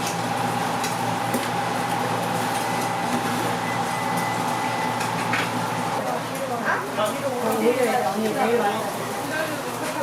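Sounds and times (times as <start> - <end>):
fan motor humming: 0.0 - 10.0.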